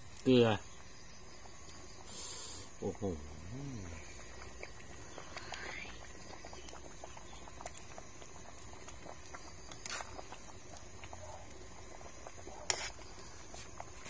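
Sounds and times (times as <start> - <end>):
curry bubbling in pot: 0.0 - 14.0.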